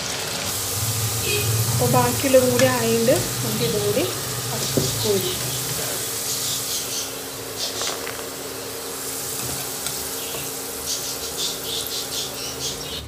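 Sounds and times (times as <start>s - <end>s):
potatoes deep-frying in oil: 0.0s - 13.0s.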